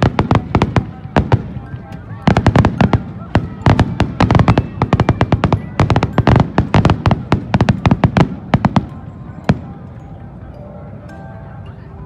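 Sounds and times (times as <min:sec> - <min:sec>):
fireworks bangs: 0:00.0 - 0:09.7.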